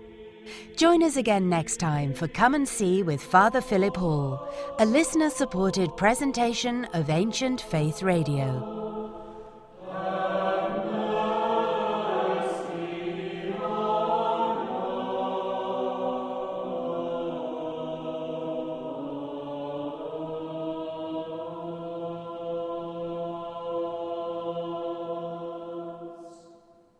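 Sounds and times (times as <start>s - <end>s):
choir chanting held notes: 0.0s - 26.9s.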